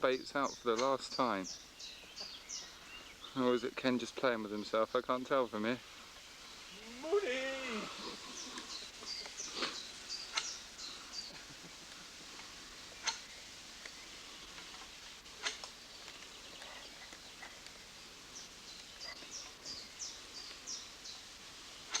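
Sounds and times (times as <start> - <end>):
faint outdoor hiss: 0.0 - 22.0
small birds chirping: 0.0 - 22.0.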